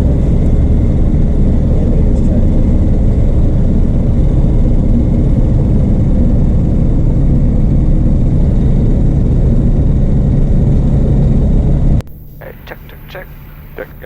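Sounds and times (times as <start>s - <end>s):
light aircraft engine running: 0.0s - 14.0s.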